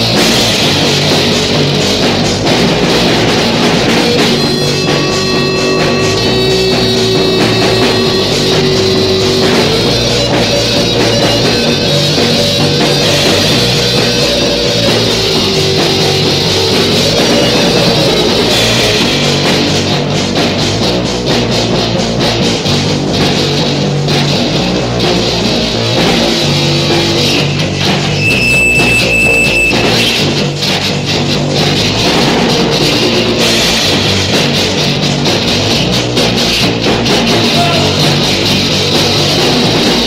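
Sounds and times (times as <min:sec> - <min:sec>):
punk song with guitar and drums: 0:00.0 - 0:40.0.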